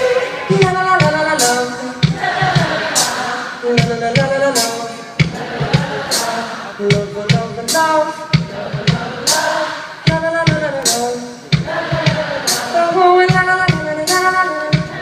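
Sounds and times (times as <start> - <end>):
man singing lead vocal: 0.0 - 15.0
steady drum beat: 0.0 - 15.0.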